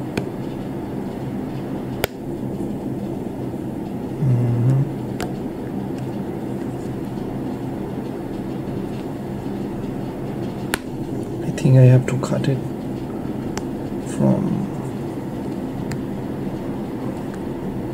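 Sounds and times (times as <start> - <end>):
low room hum: 0.0 - 17.9.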